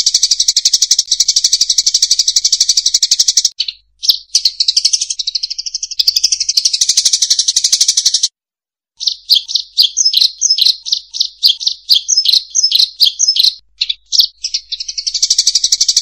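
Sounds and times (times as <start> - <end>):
munias chirping: 0.0 - 8.3, 9.0 - 16.0.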